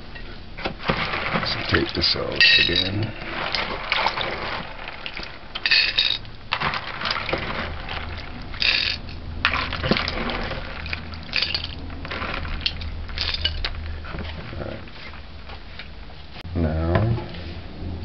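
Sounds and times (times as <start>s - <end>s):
water splashing and sloshing: 0.0s - 16.4s.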